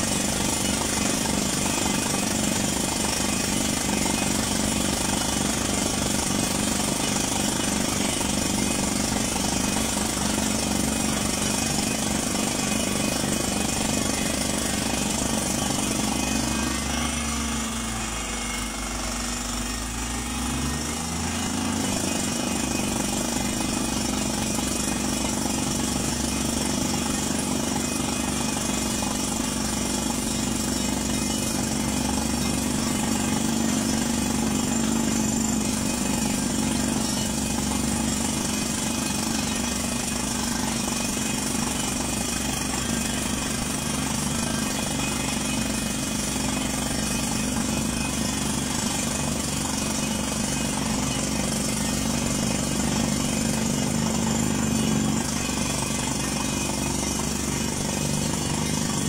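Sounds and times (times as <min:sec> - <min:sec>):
drill hammer pounding: 0:00.0 - 0:59.0
engine and compressor running: 0:00.0 - 0:59.0.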